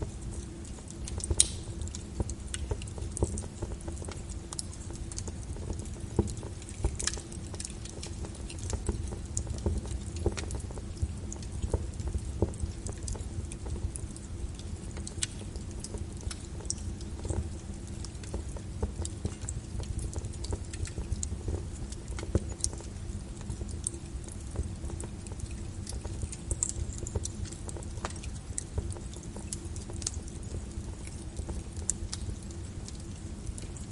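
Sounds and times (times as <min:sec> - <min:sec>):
low steady rumble: 0:00.0 - 0:33.9
wood fire crackling: 0:00.0 - 0:33.9.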